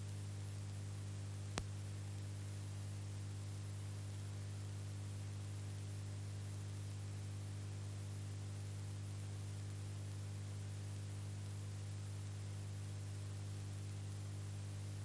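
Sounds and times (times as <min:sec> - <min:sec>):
low electrical hum: 0:00.0 - 0:15.0
steady hiss: 0:00.0 - 0:15.0.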